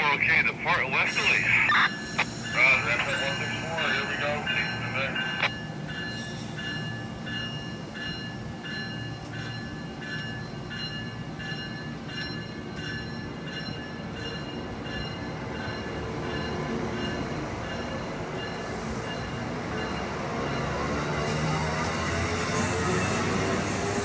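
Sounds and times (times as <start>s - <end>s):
train wheels rumbling on rail: 0.5s - 24.0s.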